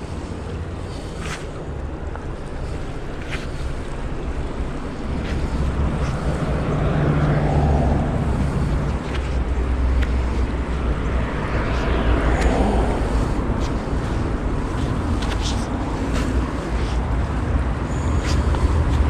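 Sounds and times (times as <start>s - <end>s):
shallow river rushing: 0.0s - 19.0s
wind buffeting microphone: 0.0s - 19.0s.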